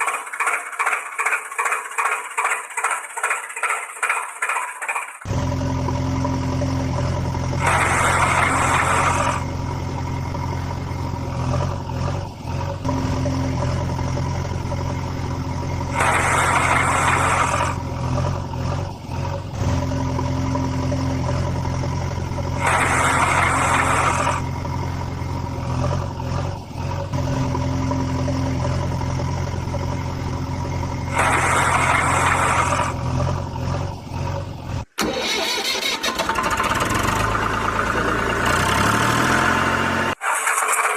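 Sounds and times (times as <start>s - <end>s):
vehicle engine idling: 0.0s - 35.5s, 36.3s - 40.2s.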